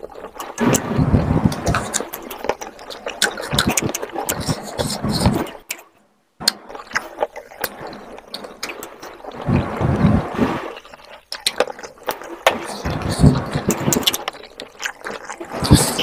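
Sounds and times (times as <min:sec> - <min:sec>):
fingers squelching in gravy: 0:00.0 - 0:05.8, 0:06.4 - 0:16.0
wet chewing and smacking: 0:00.0 - 0:16.0.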